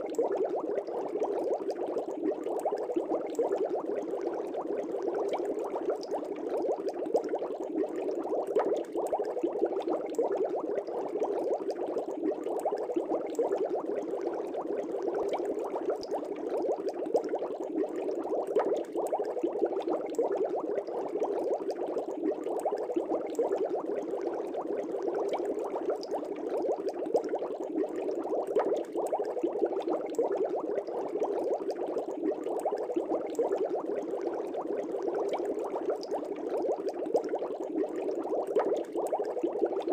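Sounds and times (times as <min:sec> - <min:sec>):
aquarium air bubbles burbling: 0:00.0 - 0:39.9.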